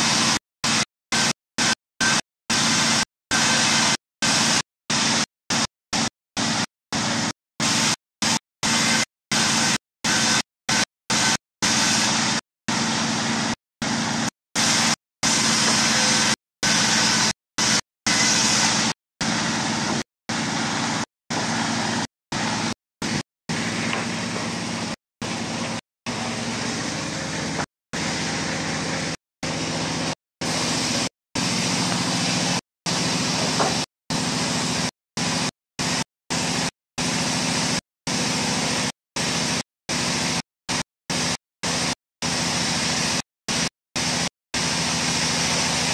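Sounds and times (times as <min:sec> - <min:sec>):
engine drone with hiss: 0:00.0 - 0:45.9.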